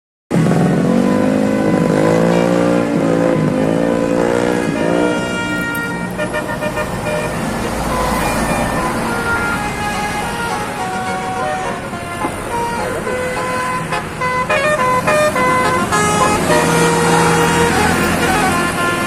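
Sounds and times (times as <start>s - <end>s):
musical air horns playing tune: 0.6s - 19.0s
low engine rumble: 3.5s - 19.0s.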